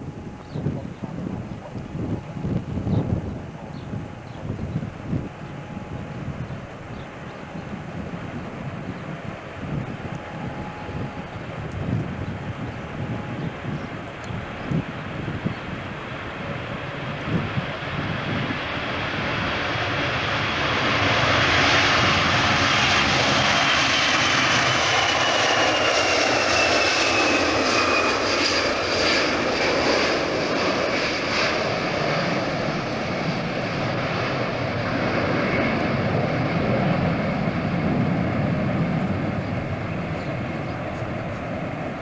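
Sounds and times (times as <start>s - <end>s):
high turbine whine: 0.0s - 42.0s
jet airliner passing: 0.0s - 42.0s.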